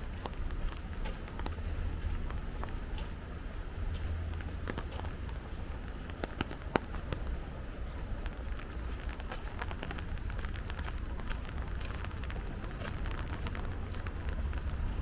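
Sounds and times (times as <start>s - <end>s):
rain falling: 0.0s - 15.0s
sharp raindrops striking close by: 0.0s - 15.0s
steady low rumble: 0.0s - 15.0s.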